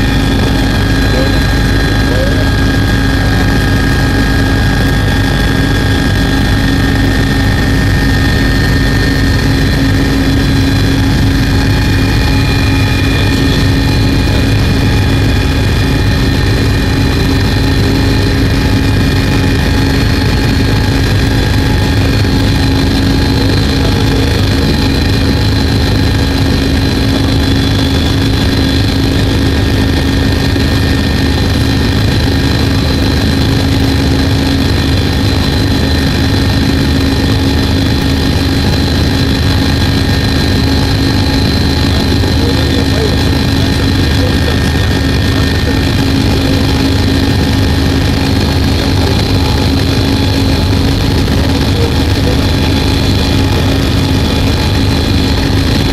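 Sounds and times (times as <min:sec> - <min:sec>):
helicopter engine and rotor drone: 0:00.0 - 0:55.9.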